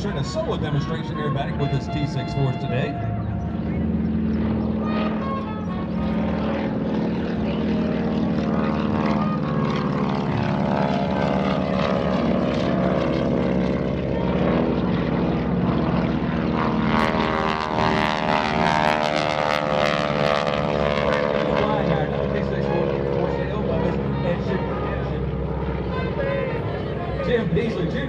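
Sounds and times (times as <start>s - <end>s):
propeller planes droning past: 0.0s - 28.0s.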